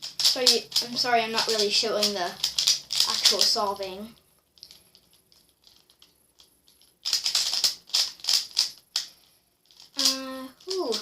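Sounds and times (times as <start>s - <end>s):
plastic puzzle pieces clacking: 0.0s - 3.8s, 4.5s - 11.0s.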